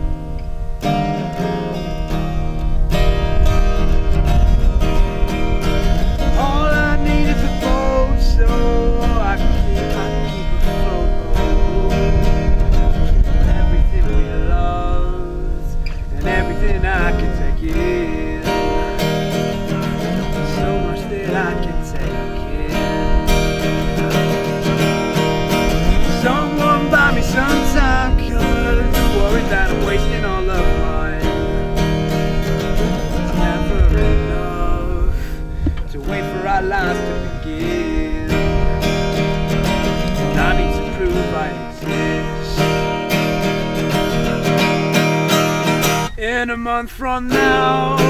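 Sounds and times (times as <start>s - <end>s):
acoustic guitar strumming: 0.0s - 48.0s
man singing wordlessly: 5.1s - 48.0s.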